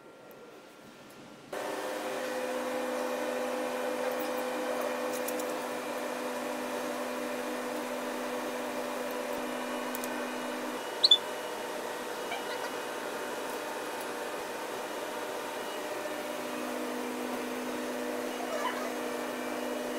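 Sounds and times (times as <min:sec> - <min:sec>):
analyser fan humming: 0:00.0 - 0:19.9.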